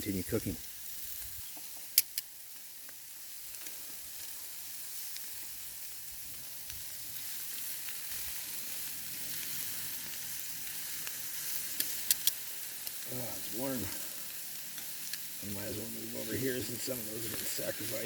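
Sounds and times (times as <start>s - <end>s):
food sizzling on a grill: 0.0s - 18.0s.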